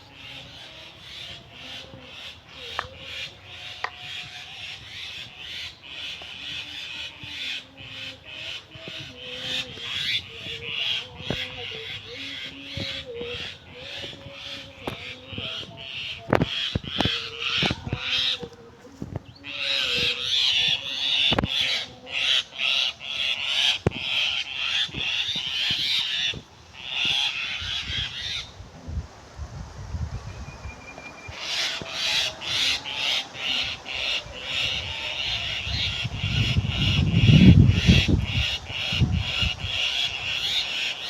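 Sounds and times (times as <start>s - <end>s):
birds calling harshly: 0.0s - 28.6s, 30.2s - 41.0s.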